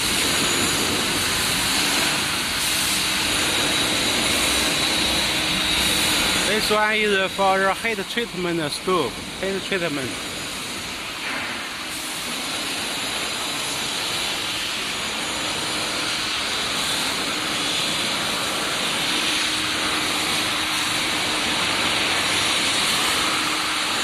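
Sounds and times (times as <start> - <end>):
workshop hissing din: 0.0 - 24.0.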